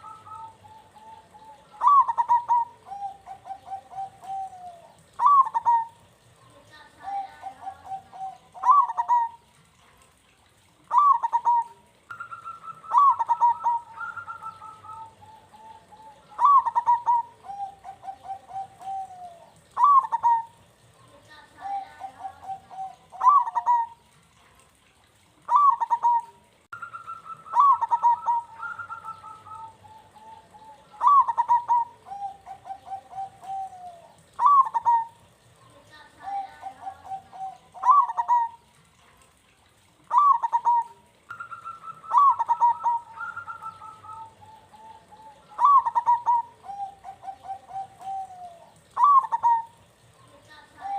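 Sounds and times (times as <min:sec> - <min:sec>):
doves cooing: 0:00.0 - 0:24.5, 0:25.1 - 0:50.9.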